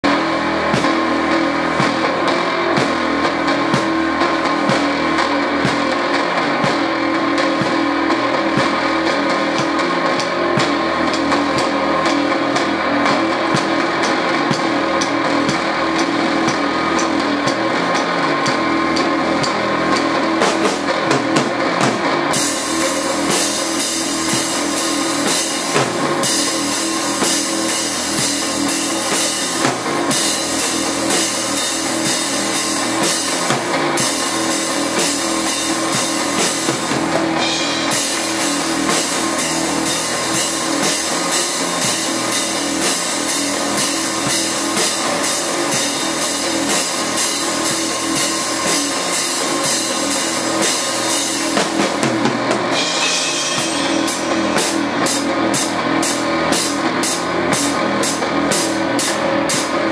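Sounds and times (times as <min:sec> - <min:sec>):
drum kit beat: 0:00.0 - 0:59.9
electric guitar: 0:00.0 - 0:59.9
loud cymbal wash: 0:00.0 - 0:59.9.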